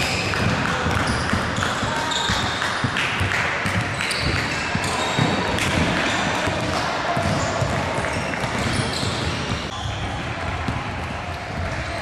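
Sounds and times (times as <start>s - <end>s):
basketballs bouncing on wooden floor: 0.0s - 9.8s
sneaker squeaks: 0.0s - 10.3s.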